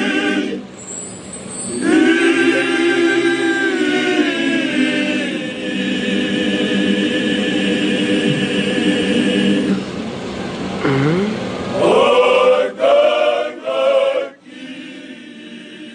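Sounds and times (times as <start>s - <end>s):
male choir singing a cappella: 0.0s - 0.8s, 1.6s - 10.1s, 11.7s - 15.9s.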